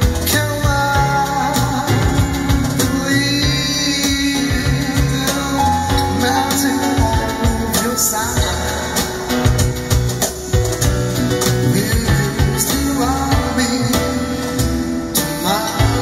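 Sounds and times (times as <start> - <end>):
person singing: 0.0 - 9.9, 11.2 - 16.0
amplified guitar: 0.0 - 16.0
rhythmic low accompaniment: 0.0 - 16.0.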